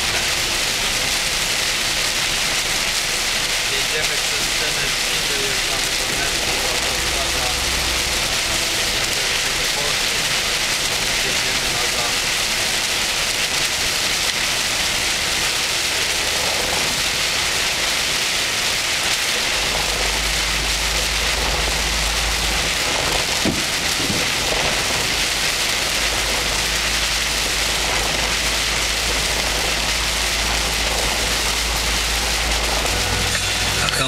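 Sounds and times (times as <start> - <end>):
low rumble: 0.0 - 13.3, 16.0 - 34.0
heavy rain on windshield: 0.0 - 34.0.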